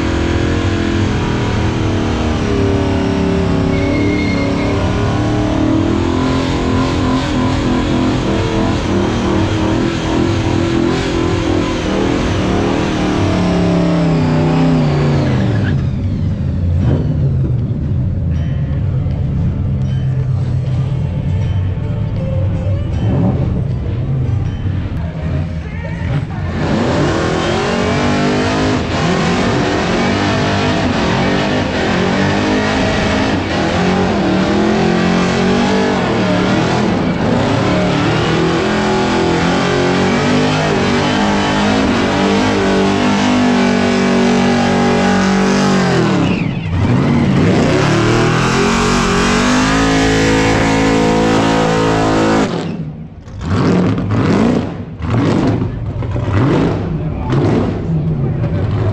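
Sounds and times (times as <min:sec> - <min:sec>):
car engine revving hard: 0:00.0 - 0:15.8, 0:26.2 - 0:58.9.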